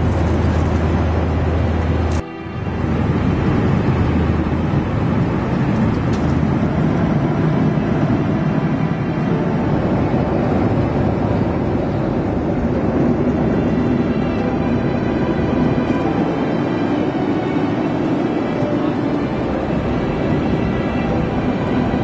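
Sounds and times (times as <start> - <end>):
airplane cabin engine rush: 0.0 - 22.0.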